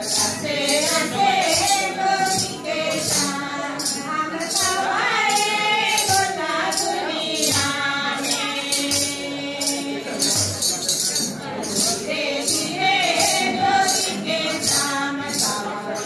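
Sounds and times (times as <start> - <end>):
women singing together: 0.0 - 10.6, 11.3 - 16.0
tambourine shaken on a beat: 0.0 - 16.0.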